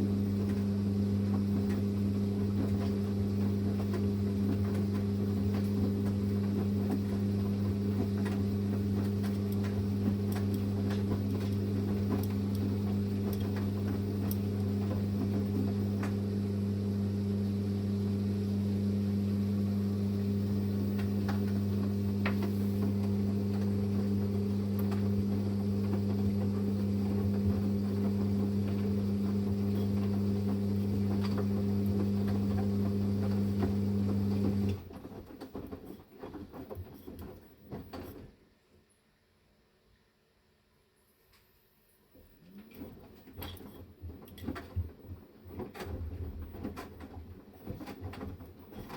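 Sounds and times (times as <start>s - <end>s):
washing machine humming: 0.0s - 38.1s, 42.4s - 48.9s.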